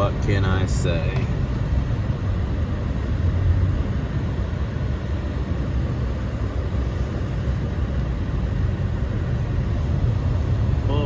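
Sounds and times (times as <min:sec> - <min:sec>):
truck engine and tires on snow: 0:00.0 - 0:11.0.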